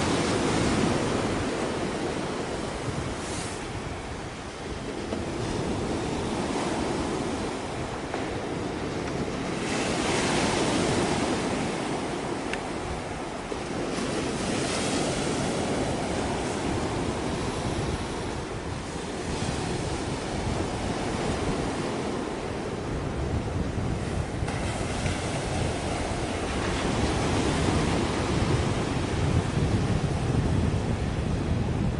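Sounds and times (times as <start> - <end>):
sea water washing at shore: 0.0 - 31.9
wind rushing over microphone: 0.0 - 31.9.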